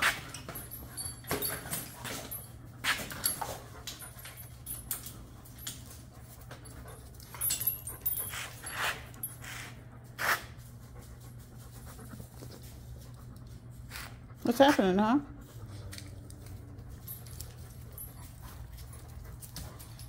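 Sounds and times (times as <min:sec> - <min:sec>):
dogs panting: 0:00.0 - 0:20.0
dogs scuffling: 0:00.0 - 0:20.0.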